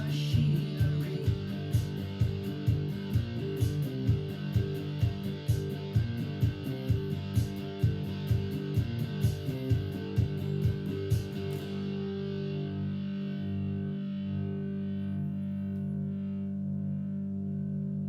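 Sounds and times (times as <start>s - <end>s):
strummed guitar music: 0.0s - 17.2s.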